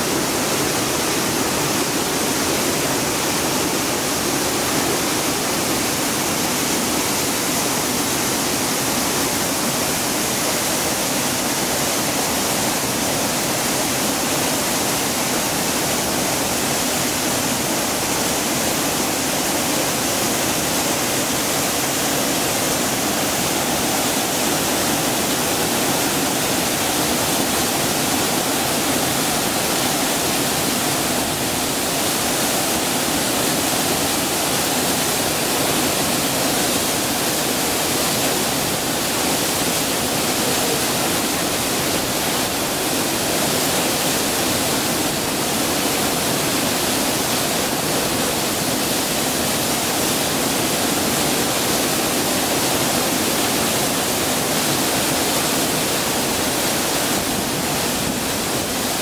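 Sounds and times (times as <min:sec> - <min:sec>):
waterfall crashing over rocks: 0:00.0 - 0:59.0.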